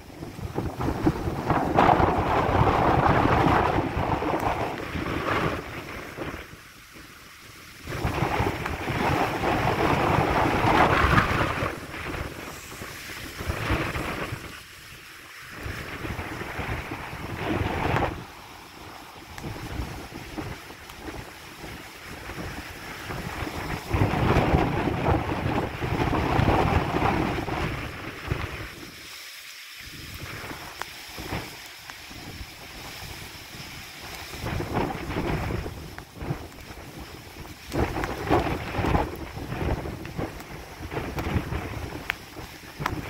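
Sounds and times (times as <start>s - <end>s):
wind buffeting microphone: 0.0s - 29.0s, 29.8s - 43.0s.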